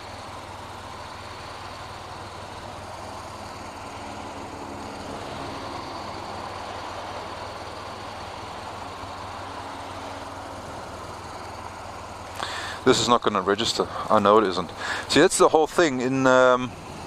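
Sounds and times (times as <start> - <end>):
faint second engine: 0.0 - 17.0
motorcycle engine idling: 0.0 - 17.0.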